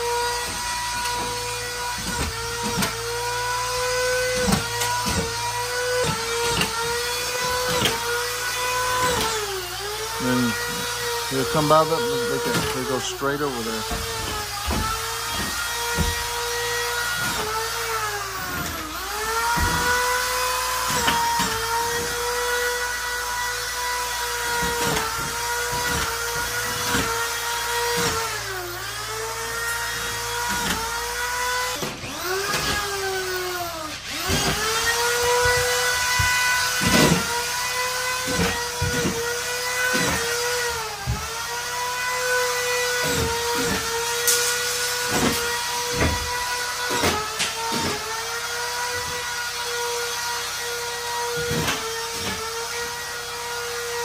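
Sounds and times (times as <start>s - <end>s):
electric power drill whining: 0.0s - 54.0s.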